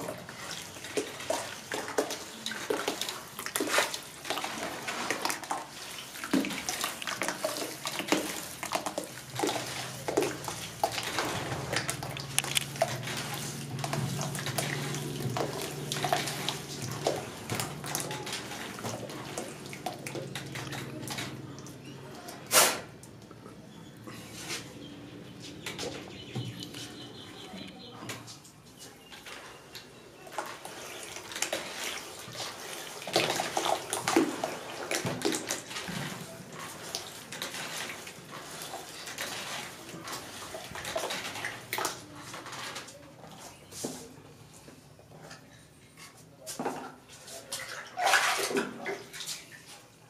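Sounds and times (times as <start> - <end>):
wet sloshing and dripping: 0.0 - 27.2, 28.3 - 44.6, 45.3 - 50.0.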